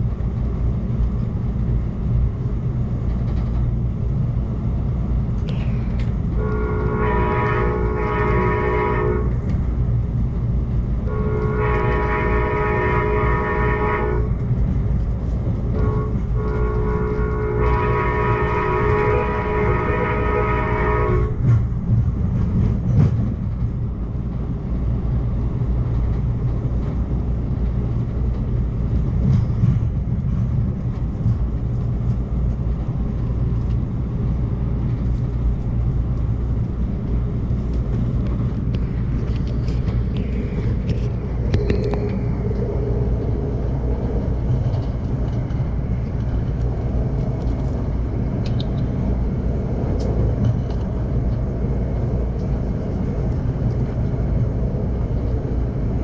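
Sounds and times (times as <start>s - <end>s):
train rumble from inside coach: 0.0s - 56.0s.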